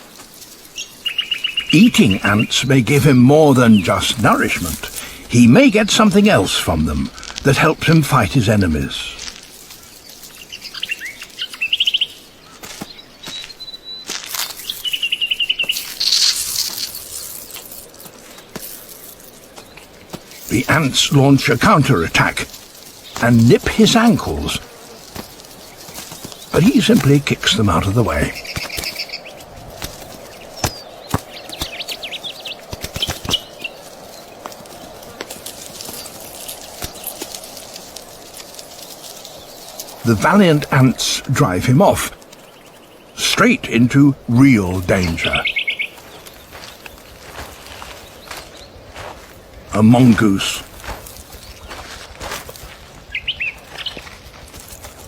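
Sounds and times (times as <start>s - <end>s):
soft rustle: 0.0s - 2.3s, 6.0s - 41.0s, 45.4s - 55.0s
beetle scuffling ticks and scrapes: 0.0s - 55.0s
small birds chirping: 0.0s - 55.0s.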